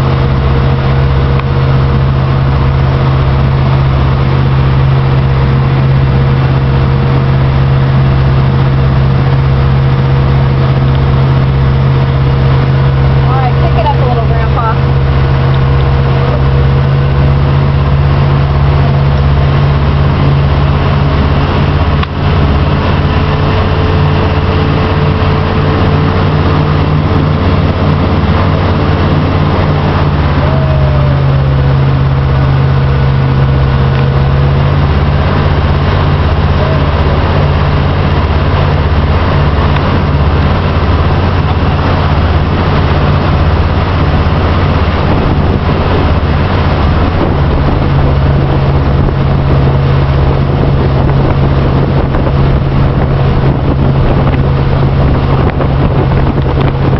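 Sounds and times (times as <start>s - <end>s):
motorboat engine running: 0.0s - 56.9s.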